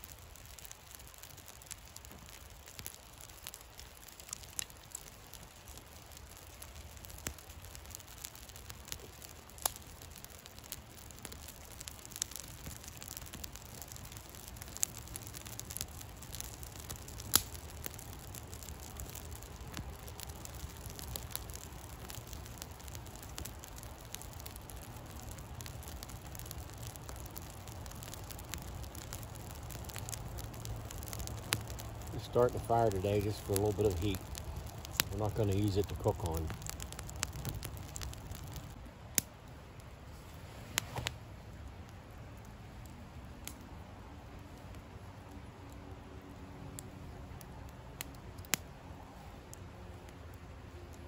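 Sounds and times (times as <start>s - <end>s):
sharp pops from burning sticks: 0.0s - 39.9s, 40.7s - 51.0s
campfire crackling: 0.0s - 51.0s
low steady rumble: 0.0s - 51.0s.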